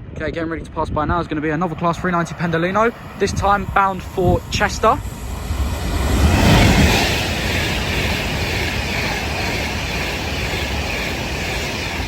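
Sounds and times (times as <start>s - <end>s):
electric train passing at speed: 1.2s - 12.0s.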